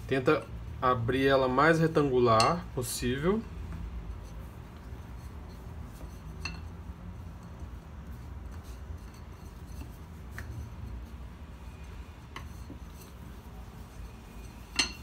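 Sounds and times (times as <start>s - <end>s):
rolling pin rolling dough: 1.2s - 15.0s.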